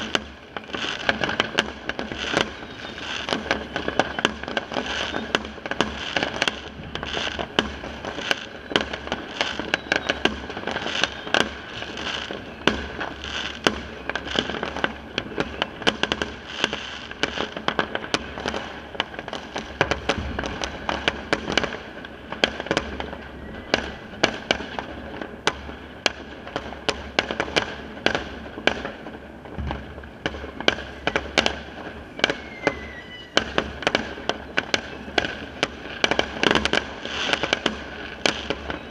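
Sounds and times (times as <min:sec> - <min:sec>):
firecracker pops: 0:00.0 - 0:38.9
fireworks banging: 0:00.0 - 0:38.9
fireworks crackling: 0:00.0 - 0:38.9.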